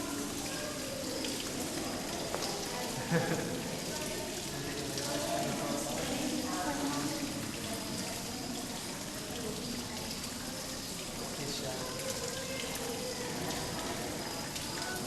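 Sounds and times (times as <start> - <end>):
indistinct chatter: 0.0 - 15.0.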